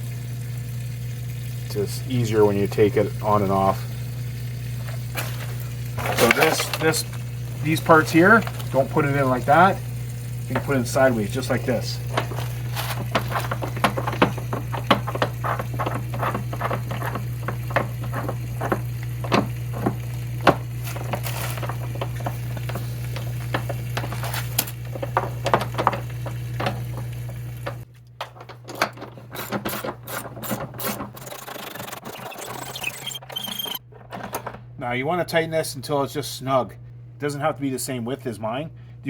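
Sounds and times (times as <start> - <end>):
steady low hum: 0.5 - 32.1.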